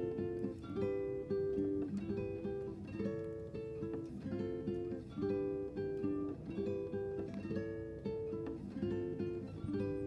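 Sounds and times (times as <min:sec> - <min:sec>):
acoustic guitar picking: 0:00.0 - 0:10.0.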